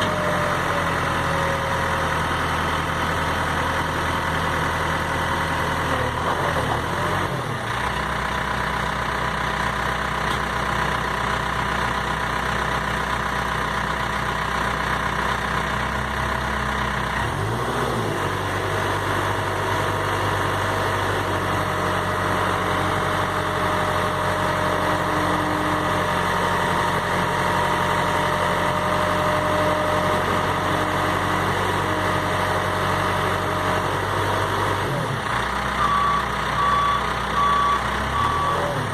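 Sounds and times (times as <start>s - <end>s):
diesel engine idling: 0.1s - 6.2s, 6.8s - 17.6s, 18.3s - 38.9s.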